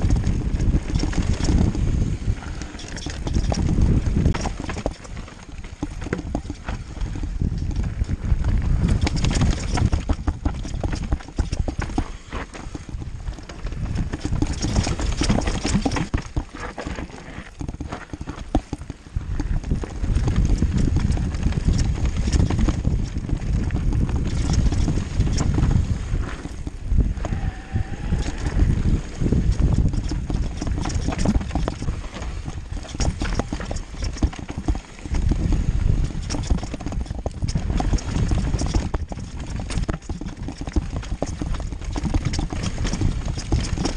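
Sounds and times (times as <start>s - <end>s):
bike rattling over bumps: 0.0s - 43.9s
tyres on loose dirt: 0.0s - 43.9s
wind on microphone: 0.0s - 43.9s.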